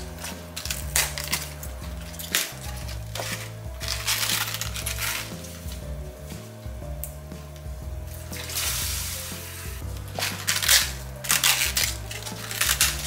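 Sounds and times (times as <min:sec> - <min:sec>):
cabbage leaves being torn: 0:00.0 - 0:05.9, 0:08.3 - 0:13.0
light background music: 0:00.0 - 0:13.0.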